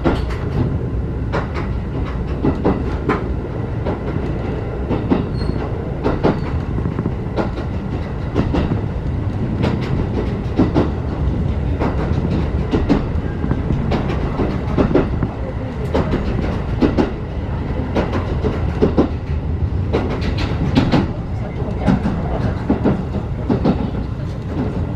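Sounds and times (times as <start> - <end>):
clicks over rail joints: 0.0 - 17.2, 17.9 - 24.9
deep rumble of wheels on rail: 0.0 - 24.9.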